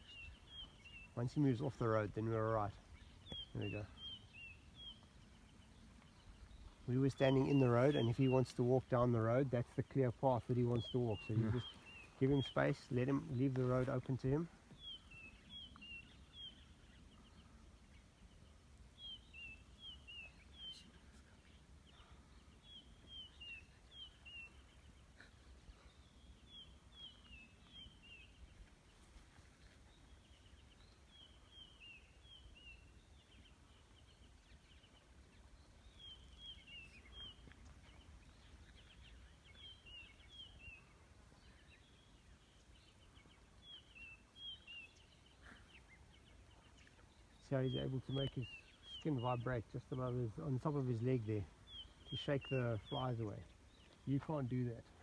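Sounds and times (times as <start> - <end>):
faint bird singing: 0.0 - 55.0.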